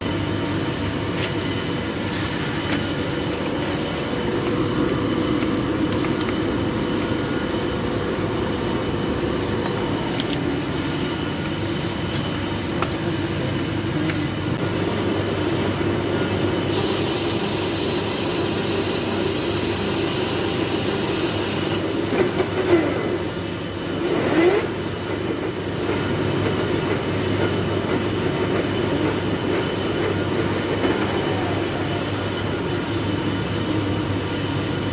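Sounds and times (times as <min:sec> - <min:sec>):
metal lathe rumbling: 0:00.0 - 0:34.9.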